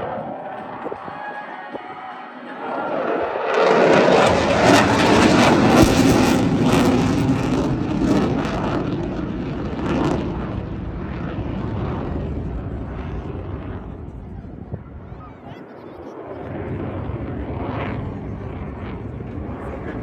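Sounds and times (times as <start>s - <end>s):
jet fighter roar: 0.0s - 20.0s.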